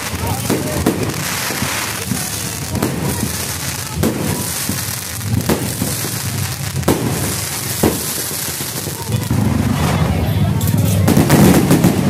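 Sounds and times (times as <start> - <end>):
firework bangs: 0.0 - 12.0
fireworks crackling hiss: 0.0 - 12.0.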